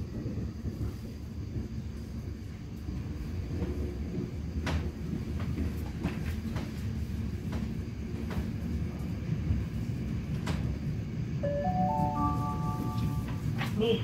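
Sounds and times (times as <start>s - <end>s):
train running gear rumble: 0.0s - 14.0s.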